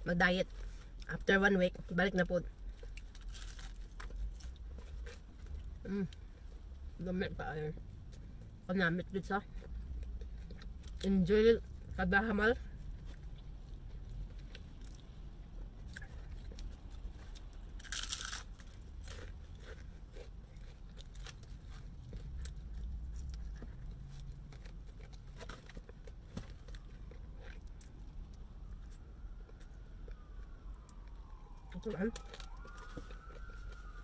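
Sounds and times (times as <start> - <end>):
crunching and chewing fried chicken: 0.1 - 34.0
faint siren: 2.5 - 34.0.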